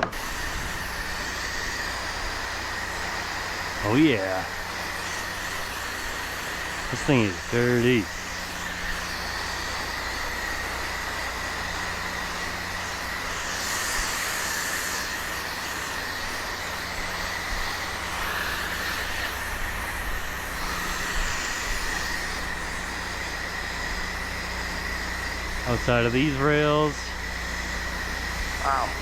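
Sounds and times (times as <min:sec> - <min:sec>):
pressure washer running: 0:00.0 - 0:29.0
water spray hissing: 0:00.0 - 0:29.0.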